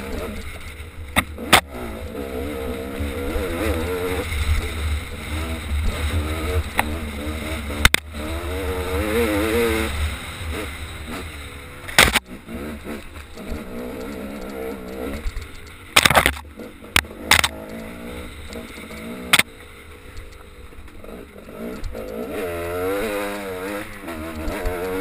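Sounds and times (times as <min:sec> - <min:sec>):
off-road vehicle engine revving: 0:00.0 - 0:19.6, 0:21.0 - 0:25.0.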